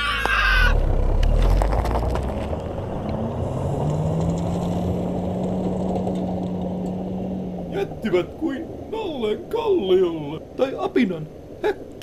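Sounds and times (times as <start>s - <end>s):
tyres rumbling on gravel: 0.0s - 12.0s.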